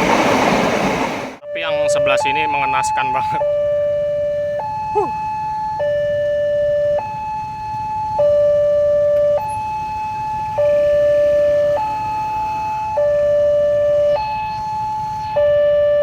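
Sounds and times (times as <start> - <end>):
level crossing warning alarm: 1.4 - 16.0.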